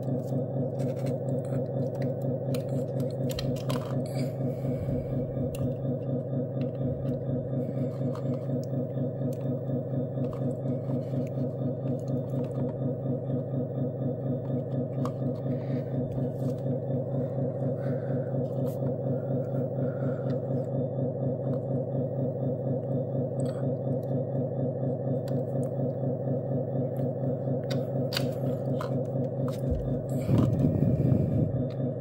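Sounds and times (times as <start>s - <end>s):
small motor humming: 0.0s - 32.0s.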